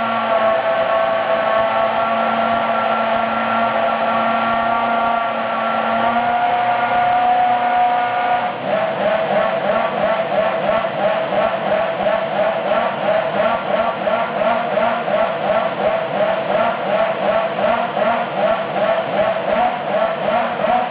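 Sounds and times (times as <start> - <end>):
engine throttle blips: 0.0 - 20.9
racing engine high idle: 0.0 - 20.9.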